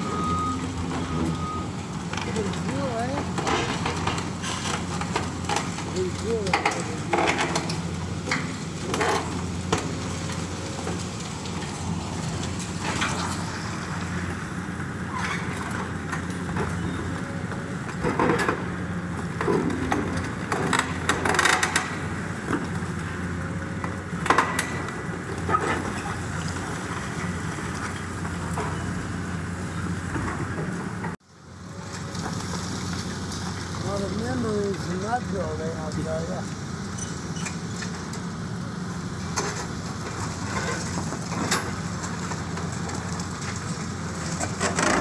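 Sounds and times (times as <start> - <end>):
debris cracking and crashing: 0.0 - 45.0
excavator diesel engine running: 0.0 - 45.0.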